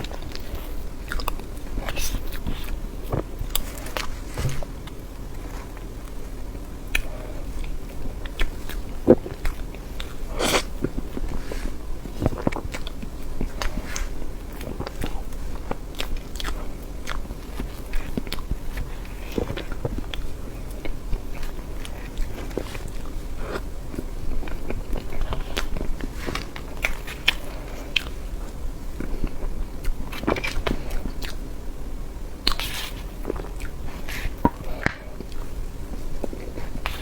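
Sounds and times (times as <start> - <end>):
person chewing cake: 0.0 - 37.0.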